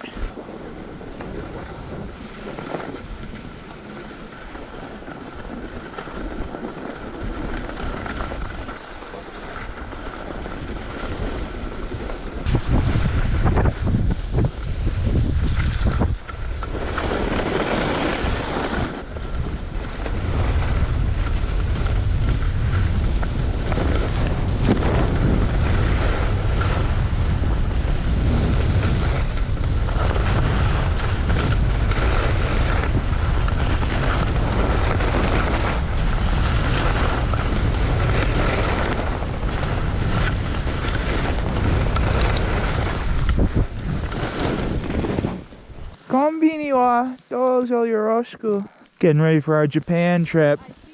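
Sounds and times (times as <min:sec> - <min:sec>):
wind buffeting microphone: 0:00.0 - 0:48.6.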